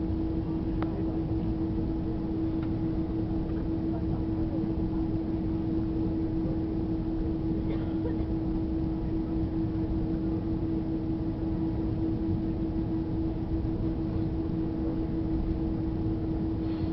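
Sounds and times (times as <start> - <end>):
aircraft cabin rumble: 0.0 - 16.9
mid-pitched hum: 0.0 - 16.9.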